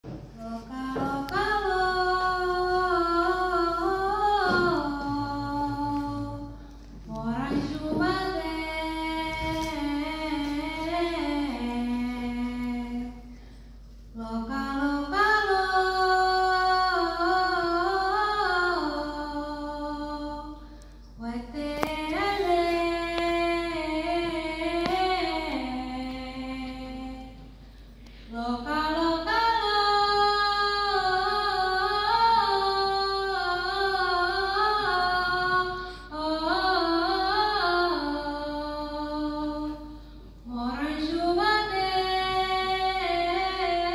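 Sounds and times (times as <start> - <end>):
woman singing unaccompanied: 0.0 - 13.3, 14.1 - 27.5, 28.3 - 43.9.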